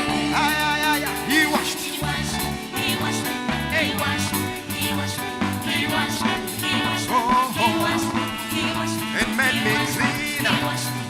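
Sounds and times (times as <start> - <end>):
gospel band playing: 0.0 - 11.0
people singing: 0.0 - 11.0.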